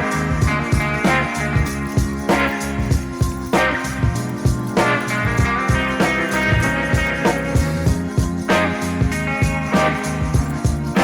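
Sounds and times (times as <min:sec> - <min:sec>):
funk music with bass and guitar: 0:00.0 - 0:11.0.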